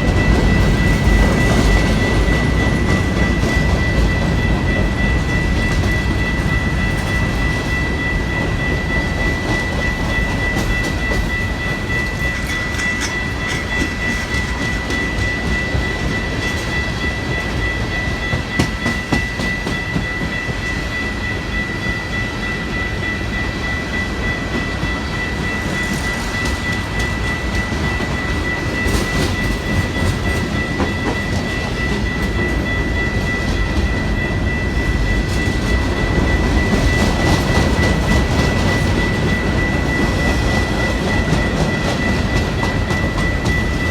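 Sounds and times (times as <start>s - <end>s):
rail clicks: 0.0s - 43.9s
train wheels rumbling on rail: 0.0s - 43.9s.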